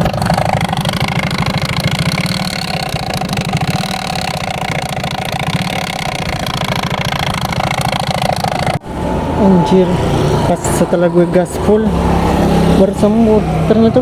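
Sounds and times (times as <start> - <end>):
motorcycle engine running rough: 0.0 - 14.0.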